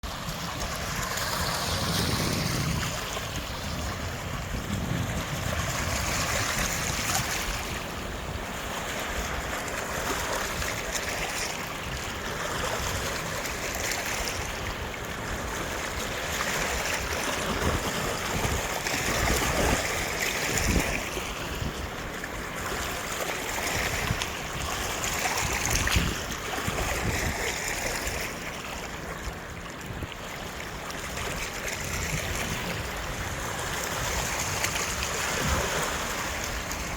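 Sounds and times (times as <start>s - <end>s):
waves breaking on pebble beach: 0.1s - 29.5s, 30.2s - 36.9s.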